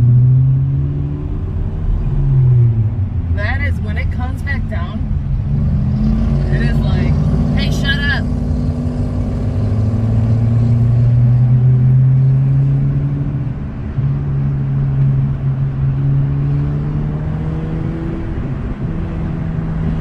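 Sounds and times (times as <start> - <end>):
car engine and exhaust droning: 0.0 - 20.0.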